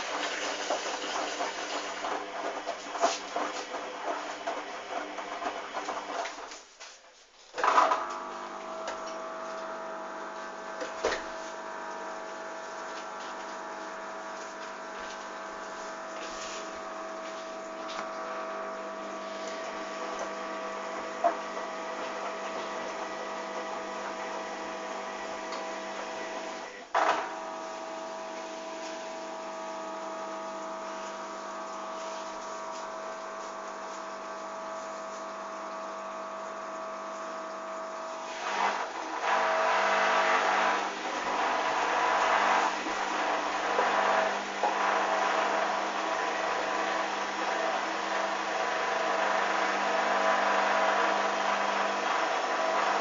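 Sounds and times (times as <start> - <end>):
washing machine humming whine: 0.0 - 53.0.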